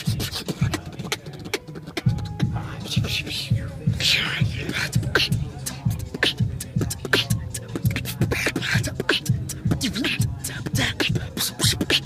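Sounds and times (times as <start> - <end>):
beatboxing: 0.0 - 12.0.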